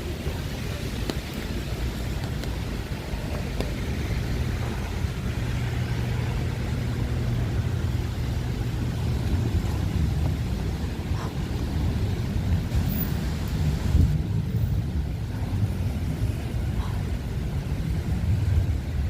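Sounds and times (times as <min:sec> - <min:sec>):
outdoor noise: 0:00.0 - 0:19.0.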